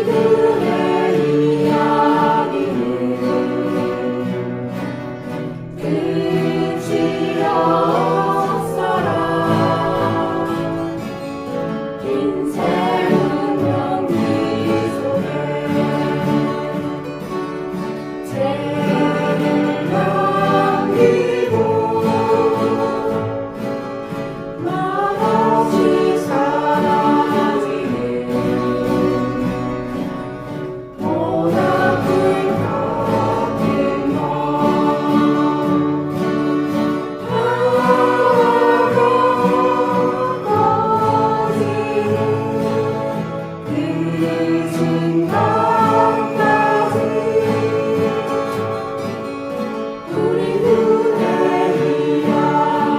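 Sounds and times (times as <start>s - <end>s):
acoustic guitars strumming: 0.0s - 52.9s
group singing folk song: 0.0s - 52.9s.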